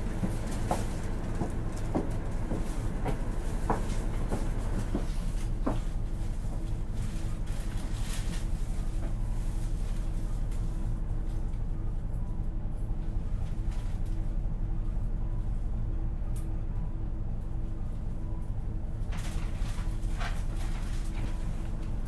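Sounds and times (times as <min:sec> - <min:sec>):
bus diesel engine humming: 0:00.0 - 0:22.0.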